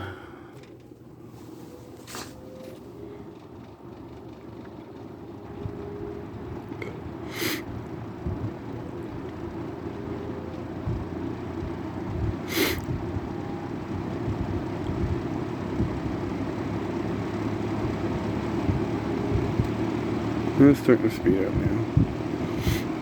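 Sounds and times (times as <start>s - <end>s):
electric fan running: 0.0s - 23.0s.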